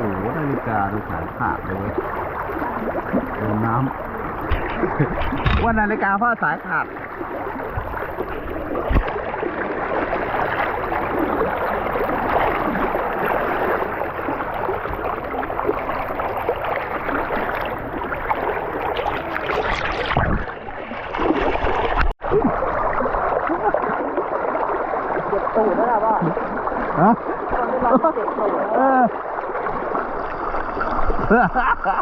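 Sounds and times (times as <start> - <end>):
churning stream: 0.0 - 32.0.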